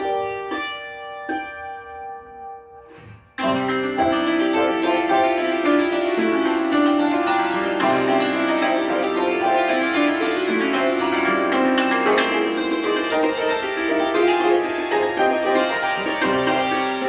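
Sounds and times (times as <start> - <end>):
cimbalom playing fast tremolo: 3.1 - 17.0.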